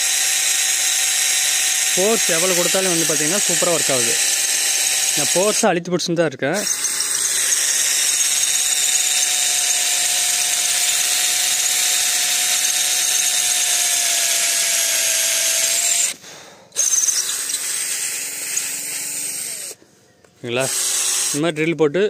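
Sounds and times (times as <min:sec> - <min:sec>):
cordless drill whining: 0:00.0 - 0:05.6, 0:06.6 - 0:16.2, 0:16.8 - 0:19.8, 0:20.5 - 0:21.7.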